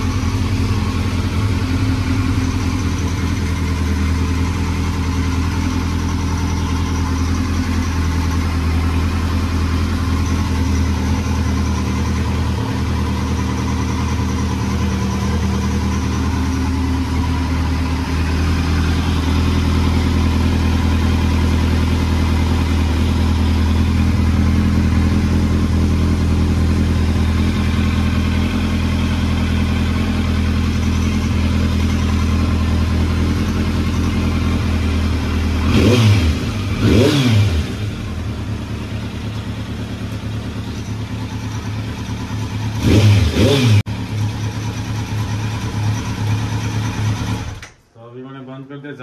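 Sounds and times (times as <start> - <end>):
motorcycle engine idling: 0.0 - 47.8.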